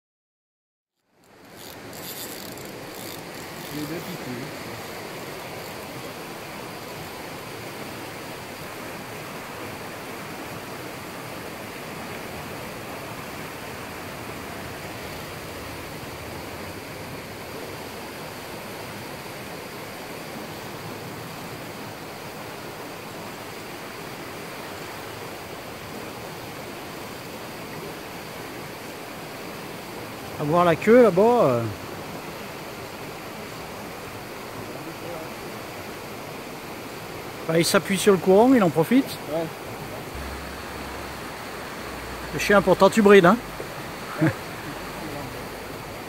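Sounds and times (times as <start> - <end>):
river rushing: 1.1 - 46.0.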